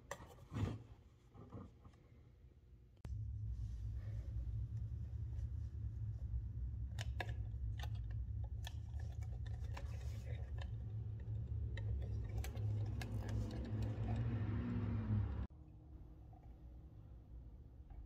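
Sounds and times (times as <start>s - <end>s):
steady low hum: 2.3s - 18.0s.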